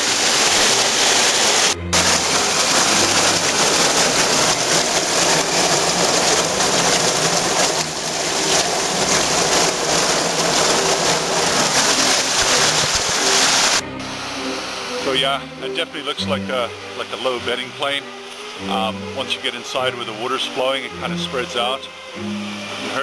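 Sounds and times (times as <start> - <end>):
stream rushing and splashing: 0.0 - 23.0.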